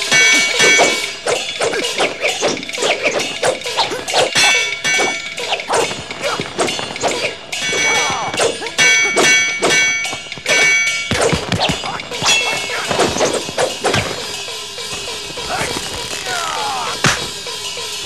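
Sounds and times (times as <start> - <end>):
wooden staffs striking: 0.0 - 17.5
ringing metallic clangs: 0.0 - 18.0.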